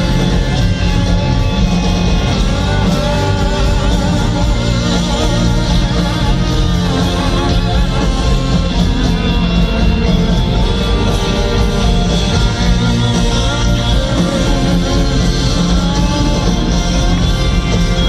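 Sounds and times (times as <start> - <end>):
bass guitar: 0.0 - 18.0
drums: 0.0 - 18.0
guitar: 0.0 - 18.0.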